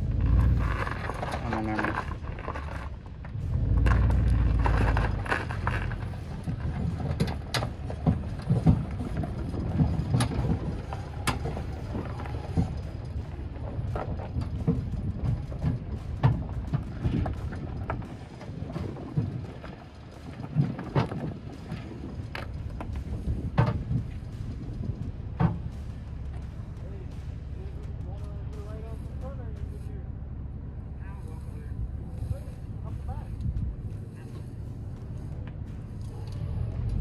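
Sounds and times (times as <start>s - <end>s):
tow bar clanks and rattles: 0.0s - 30.2s
loud low rumble: 0.0s - 37.0s
road noise: 0.0s - 37.0s.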